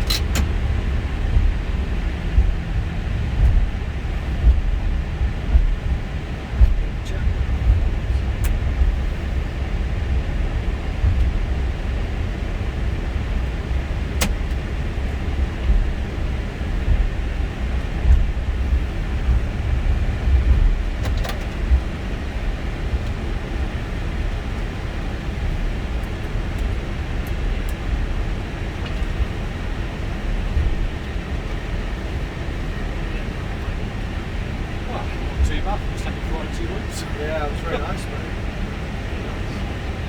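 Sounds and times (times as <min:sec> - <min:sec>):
low rumble with hiss: 0:00.0 - 0:40.0.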